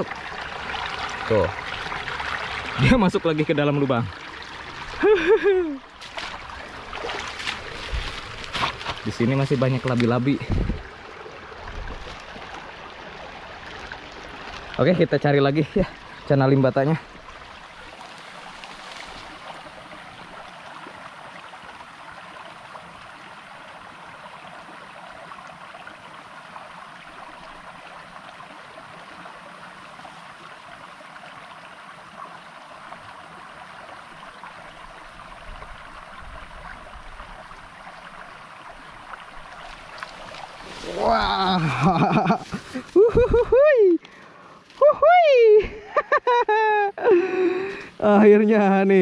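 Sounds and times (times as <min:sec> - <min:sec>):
stream running: 0:00.0 - 0:49.0.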